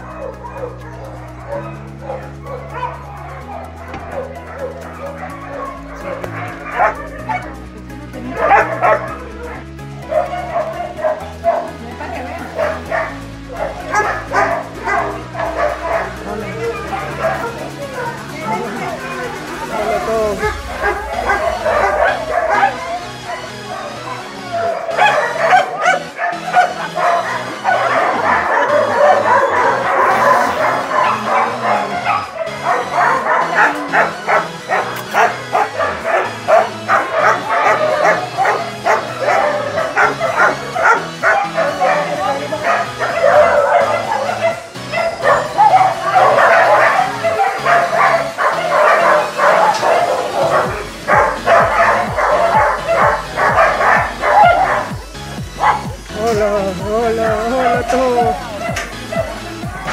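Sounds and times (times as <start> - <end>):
background music: 0.0 - 59.9
dogs barking and yelping: 0.0 - 59.9.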